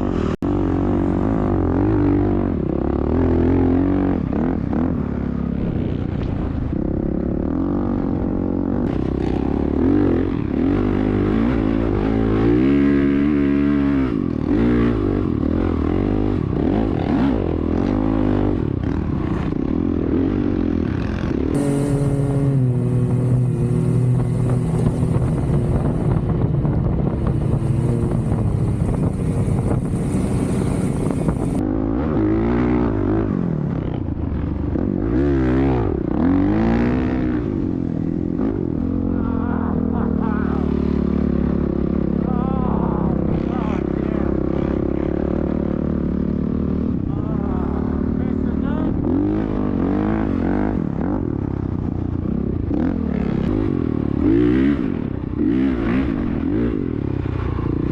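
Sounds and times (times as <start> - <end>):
off-road vehicle engines revving: 0.0 - 57.9.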